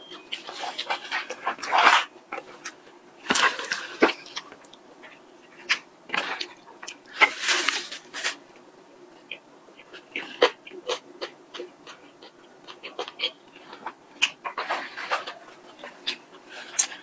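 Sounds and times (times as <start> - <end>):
chewing and mouth noises: 0.1 - 8.4, 9.2 - 17.0.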